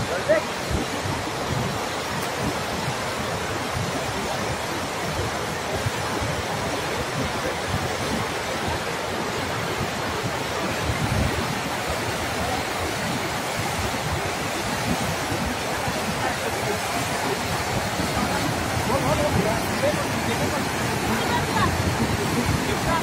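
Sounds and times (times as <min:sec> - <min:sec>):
river water rushing: 0:00.0 - 0:23.0
wind buffeting microphone: 0:00.0 - 0:23.0.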